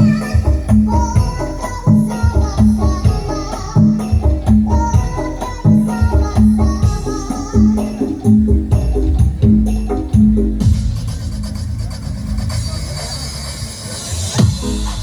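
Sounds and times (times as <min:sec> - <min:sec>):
jingling percussion: 0:00.0 - 0:15.0
loud music over pa system: 0:00.0 - 0:15.0.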